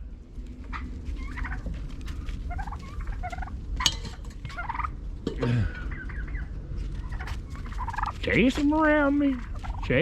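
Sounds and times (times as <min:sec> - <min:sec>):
turkeys yelping: 0:00.2 - 0:10.0.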